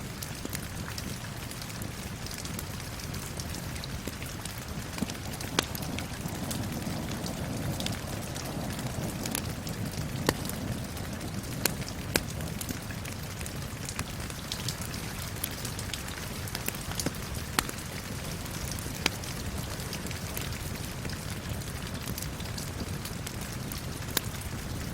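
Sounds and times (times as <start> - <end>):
rain hiss and patter: 0.0 - 24.9
burning wood popping: 0.2 - 24.9.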